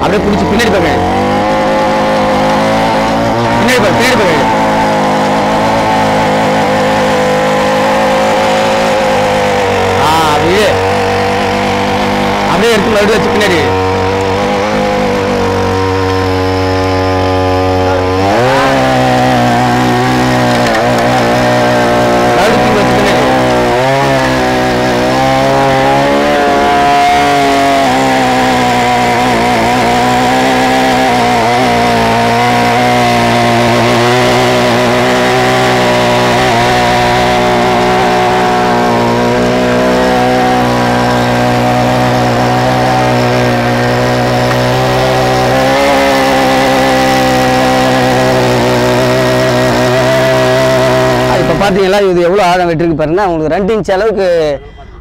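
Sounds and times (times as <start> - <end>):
weeding head churning soil: 0.0 - 52.0
brush cutter engine revving: 0.0 - 53.4.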